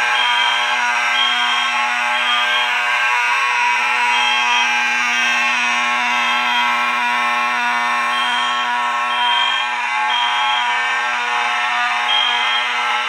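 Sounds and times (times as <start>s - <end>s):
fire alarm horn buzzing: 0.0s - 13.0s.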